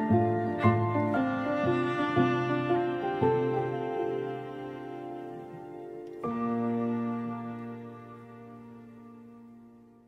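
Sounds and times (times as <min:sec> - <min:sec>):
slow instrumental chord: 0:00.0 - 0:10.0.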